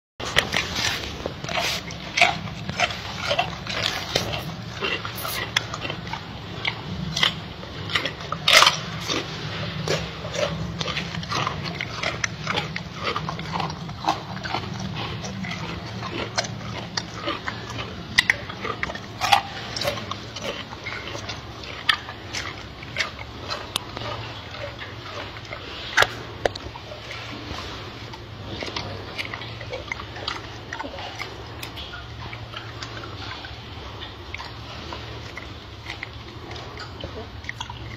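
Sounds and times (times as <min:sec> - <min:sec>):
gorilla chewing crunches: 0:00.2 - 0:37.9
mouth clicks: 0:00.2 - 0:37.9.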